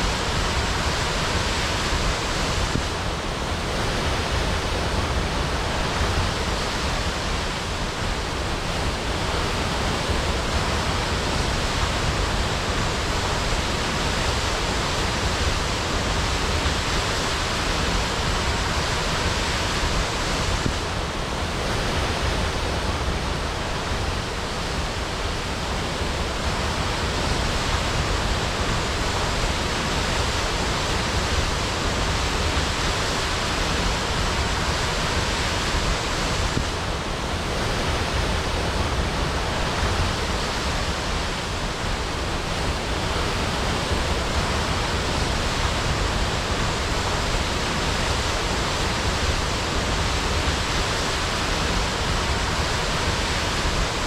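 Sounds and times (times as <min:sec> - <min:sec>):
waterfall crashing: 0:00.0 - 0:54.0.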